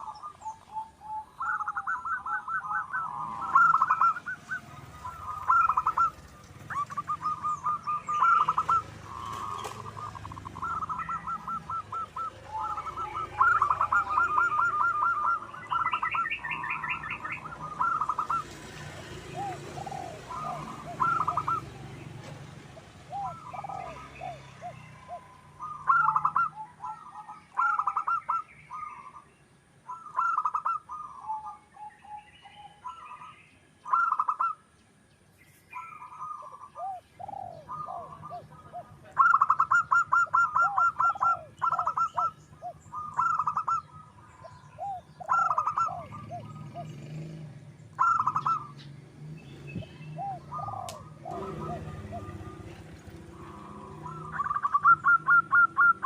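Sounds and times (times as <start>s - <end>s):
dove cooing: 0.0s - 29.3s, 29.9s - 33.3s, 33.9s - 34.6s, 35.8s - 48.9s, 49.7s - 56.0s.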